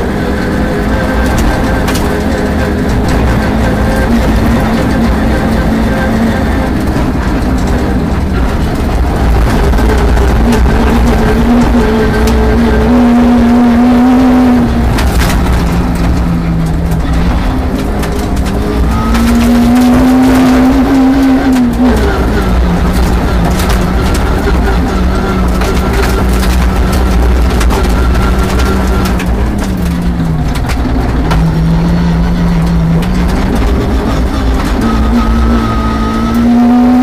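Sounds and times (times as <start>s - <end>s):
gravel pinging against car: 0.0s - 37.0s
rally car engine pulling hard: 0.0s - 37.0s.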